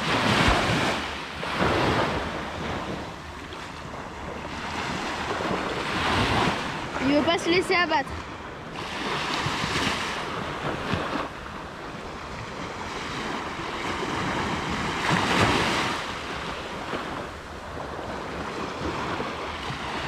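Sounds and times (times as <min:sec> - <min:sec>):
waves breaking on beach: 0:00.0 - 0:20.0
wind buffeting microphone: 0:00.0 - 0:20.0.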